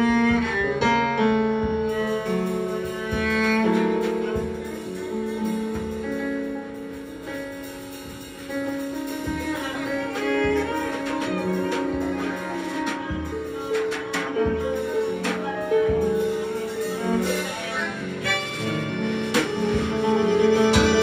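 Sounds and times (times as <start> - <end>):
drum kit hits: 1.5 - 21.0.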